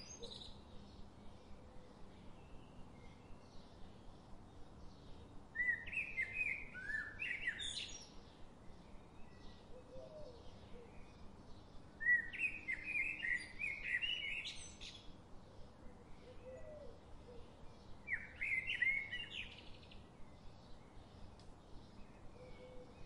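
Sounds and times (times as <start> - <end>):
faint outdoor hiss: 0.0 - 23.0.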